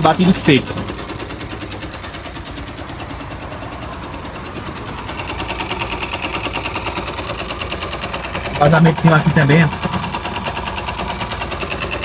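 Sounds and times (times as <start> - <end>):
engine running with dry knock: 0.0 - 12.0.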